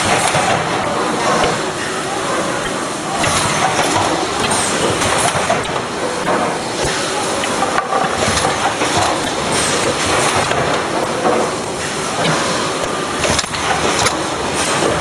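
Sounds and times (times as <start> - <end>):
packing machine clattering: 0.0 - 15.0.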